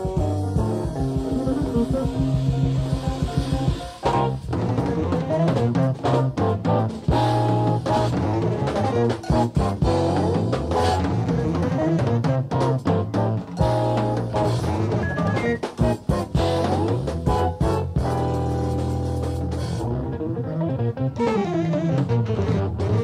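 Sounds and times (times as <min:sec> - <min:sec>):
bass guitar: 0:00.0 - 0:23.0
drum kit: 0:00.0 - 0:23.0
jazz fusion band playing: 0:00.0 - 0:23.0.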